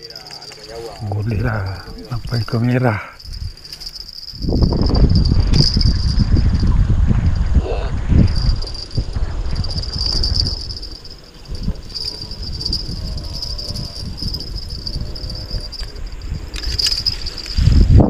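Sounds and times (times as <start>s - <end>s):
insects chirring: 0.0s - 18.0s
low rumble: 3.2s - 17.8s.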